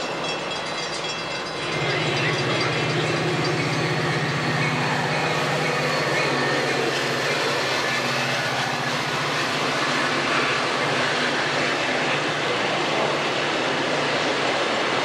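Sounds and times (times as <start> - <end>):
diesel locomotive engine humming: 0.0 - 15.0
train wheels on rails rushing: 0.0 - 15.0.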